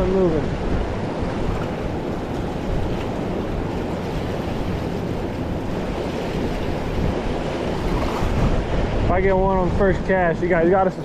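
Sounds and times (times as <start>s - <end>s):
river rushing: 0.0s - 9.8s.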